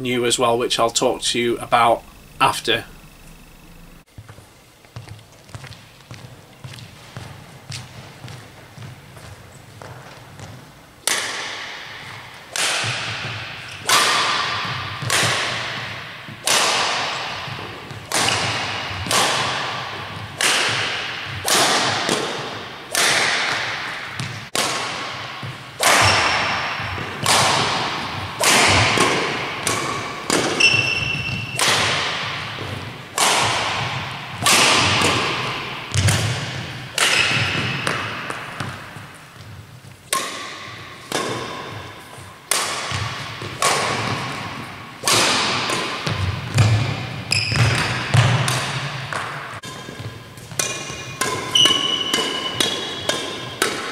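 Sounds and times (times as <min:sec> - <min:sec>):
rackets striking shuttlecock: 0:09.8 - 0:53.9.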